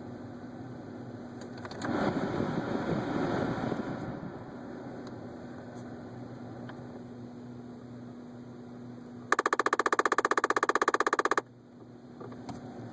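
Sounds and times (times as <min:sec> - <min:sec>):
car heater hum: 0:00.0 - 0:12.9.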